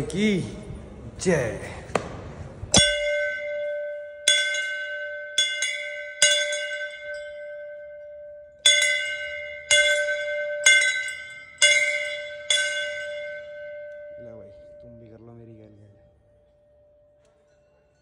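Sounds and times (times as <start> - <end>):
temple bell ringing: 2.7 - 18.0.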